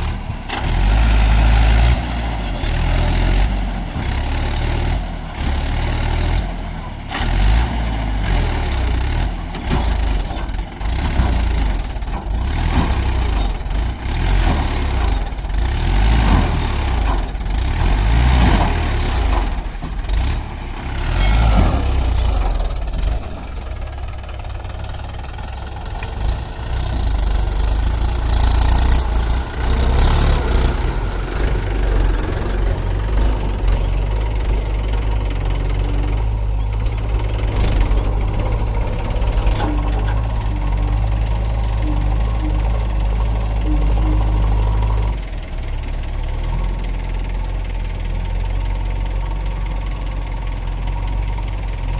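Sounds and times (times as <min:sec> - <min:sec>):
diesel engines under load: 0:00.0 - 0:51.9.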